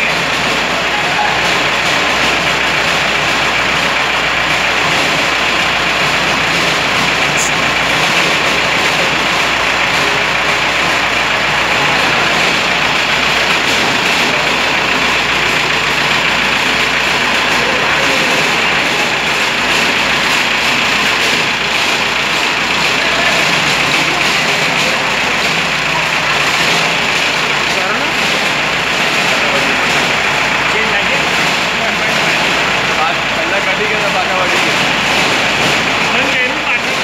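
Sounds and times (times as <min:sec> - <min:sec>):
machine running steadily: 0:00.0 - 0:37.0.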